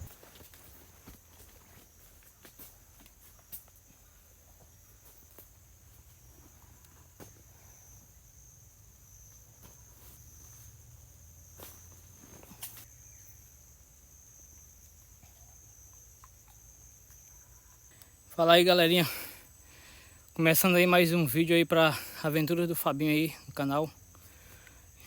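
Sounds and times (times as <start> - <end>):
crickets buzzing: 0.0 - 25.0.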